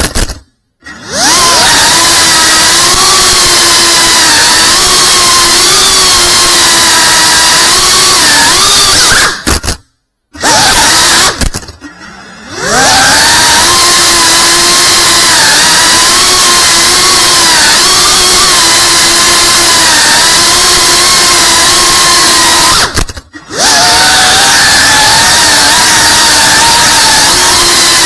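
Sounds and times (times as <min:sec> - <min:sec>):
drone propellers whining: 0:00.8 - 0:09.4, 0:10.4 - 0:11.5, 0:12.2 - 0:28.0.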